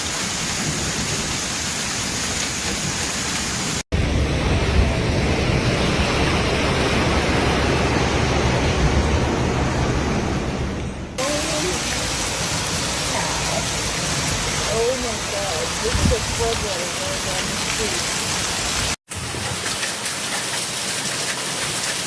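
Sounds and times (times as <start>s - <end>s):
heavy rainstorm: 0.0s - 22.0s.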